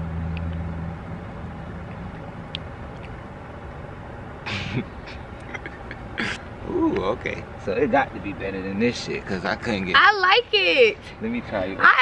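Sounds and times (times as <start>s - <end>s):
distant traffic rumble: 0.0s - 12.0s
low engine-like hum: 0.0s - 12.0s.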